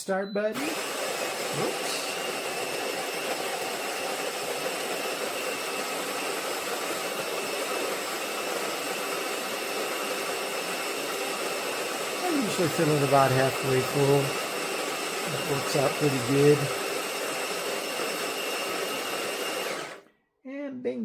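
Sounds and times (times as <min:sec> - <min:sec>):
coffee grinder whirring: 0:00.6 - 0:20.0.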